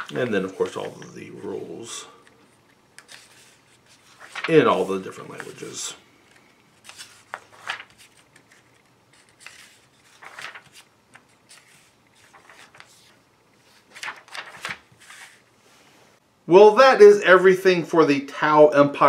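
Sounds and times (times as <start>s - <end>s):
paper pages turning: 0.0s - 15.5s.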